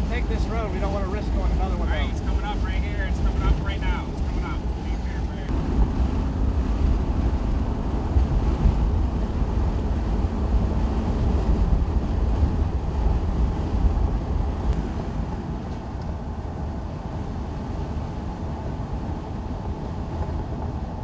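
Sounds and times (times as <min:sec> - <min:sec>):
moving vehicle rumble: 0:00.0 - 0:21.0
wind buffeting microphone: 0:00.0 - 0:21.0.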